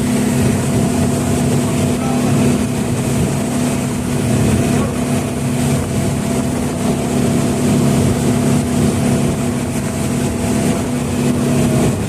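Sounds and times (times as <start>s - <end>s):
rushing water and wind: 0.0s - 12.0s
speedboat engine drone: 0.0s - 12.0s.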